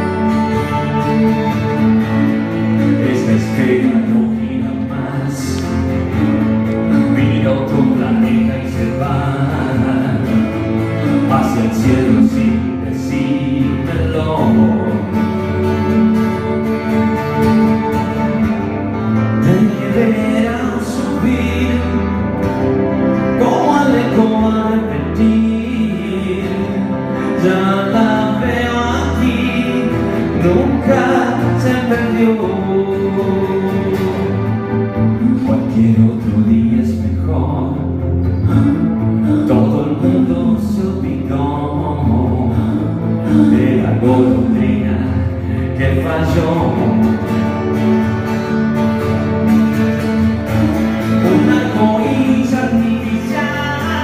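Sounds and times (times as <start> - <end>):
guitar-led rock instrumental: 0.0 - 54.0.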